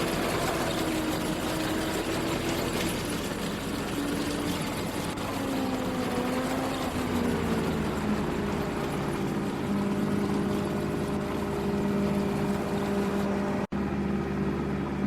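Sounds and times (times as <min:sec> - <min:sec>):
farm machine engine running: 0:00.0 - 0:15.0.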